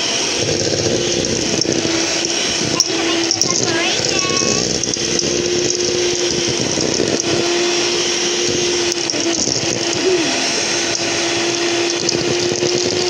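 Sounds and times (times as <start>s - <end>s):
electric kitchen mixer running: 0.0s - 13.0s.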